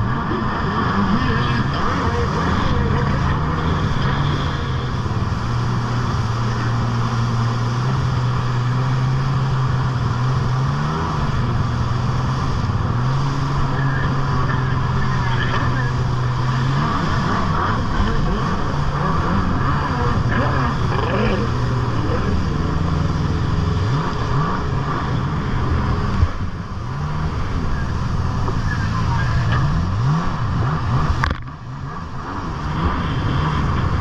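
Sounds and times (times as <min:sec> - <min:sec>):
jet ski engine drone: 0:00.0 - 0:34.0
wind and water spray: 0:00.0 - 0:34.0.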